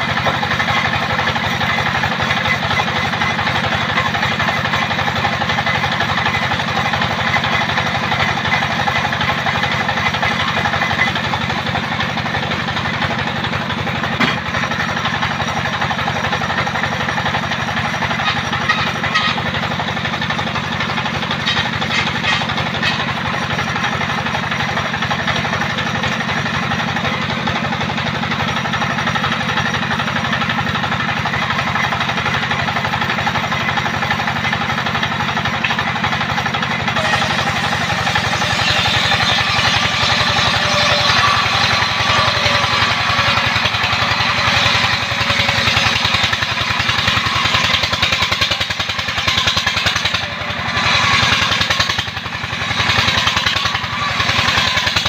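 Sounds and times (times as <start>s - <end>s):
engine drone: 0.0s - 55.0s
saw blade cutting wood: 0.0s - 55.0s.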